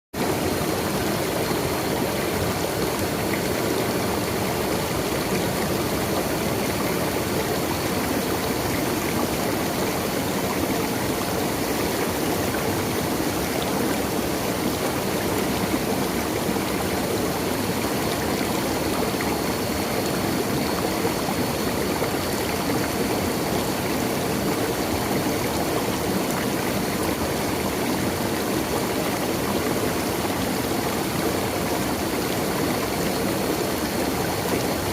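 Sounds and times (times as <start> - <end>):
running water: 0.2 - 34.9.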